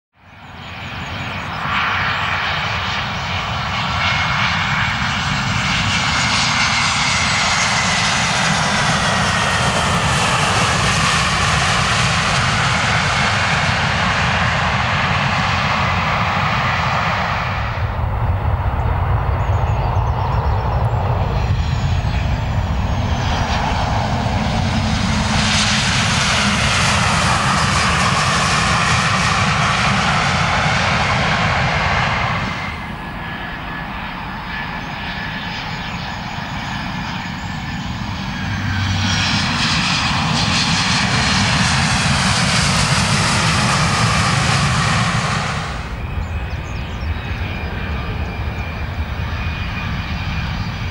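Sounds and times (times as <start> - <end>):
jet engines roaring and whining: 0.2 - 50.9.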